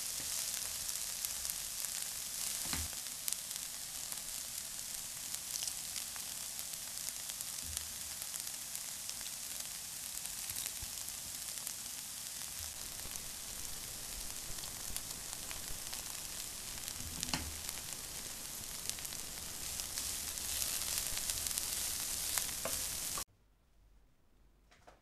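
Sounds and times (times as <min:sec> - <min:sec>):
food sizzling in a pan: 0:00.0 - 0:23.3.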